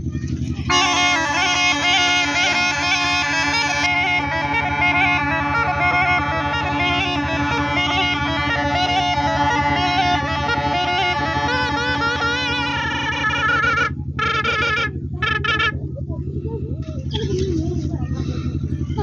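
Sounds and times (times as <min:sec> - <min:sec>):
reedy pipe melody over drone: 0:00.0 - 0:19.0.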